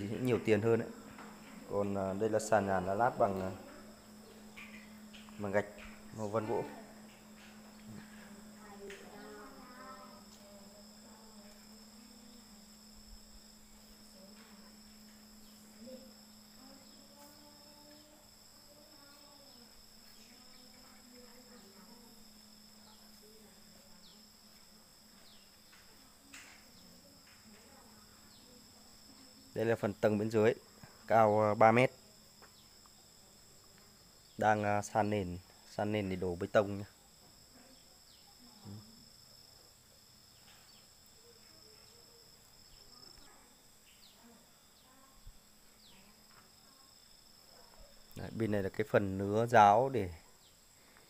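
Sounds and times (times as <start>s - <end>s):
high-pitched insect chirring: 0.0s - 50.8s
low steady hum: 0.0s - 51.0s.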